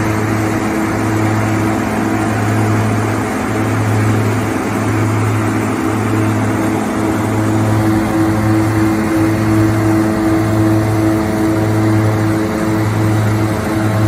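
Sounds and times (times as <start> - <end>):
harvester engine hum: 0.0 - 14.0.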